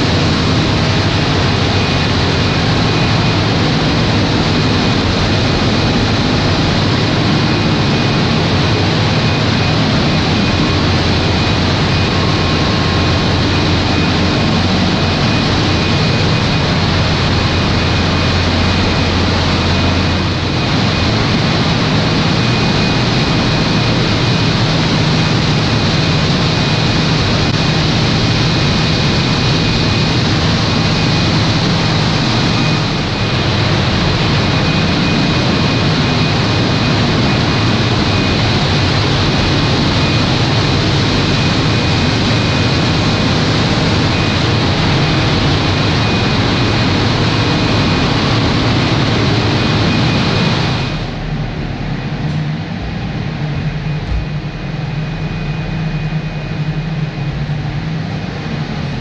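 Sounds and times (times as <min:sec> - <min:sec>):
diesel generator running: 0:00.0 - 0:59.0
thin high whine: 0:00.0 - 0:59.0.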